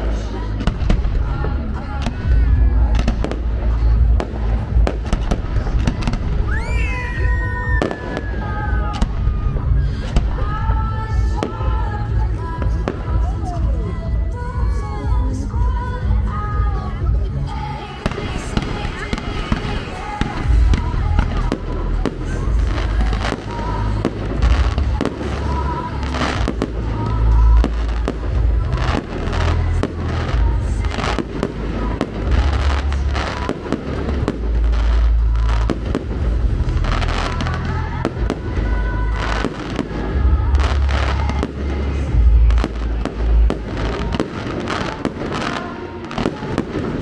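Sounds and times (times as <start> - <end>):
deep fireworks booms: 0.0 - 15.2, 18.0 - 47.0
fireworks bangs and crackles: 0.0 - 47.0.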